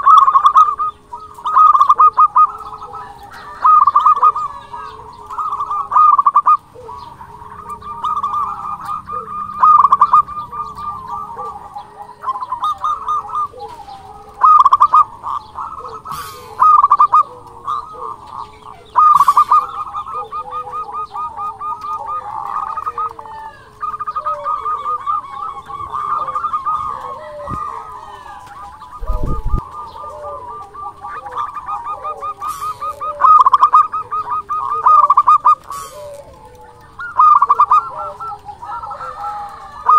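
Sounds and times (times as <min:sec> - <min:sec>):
dove rolling coos: 0:00.0 - 0:39.9.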